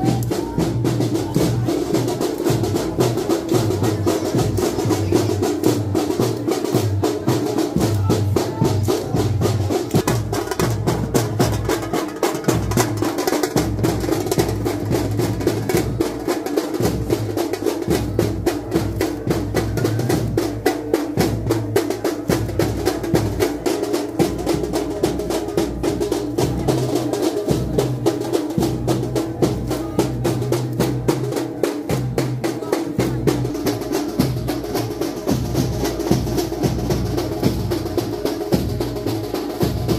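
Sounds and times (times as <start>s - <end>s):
procession drums beating: 0.0s - 39.9s.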